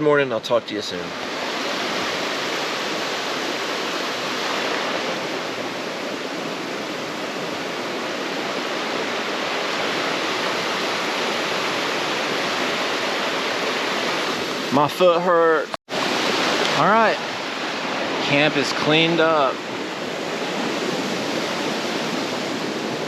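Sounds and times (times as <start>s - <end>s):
creek water rushing: 0.3s - 23.0s.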